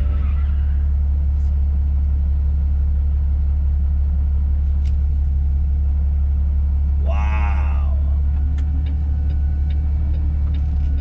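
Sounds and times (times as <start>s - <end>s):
road noise inside car: 0.0s - 11.0s
vehicle engine rumble: 0.0s - 11.0s.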